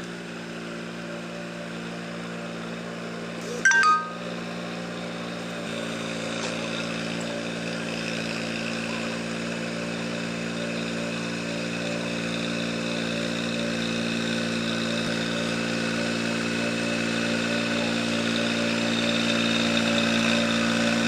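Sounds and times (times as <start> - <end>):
tractor diesel engine running: 0.4 - 21.0.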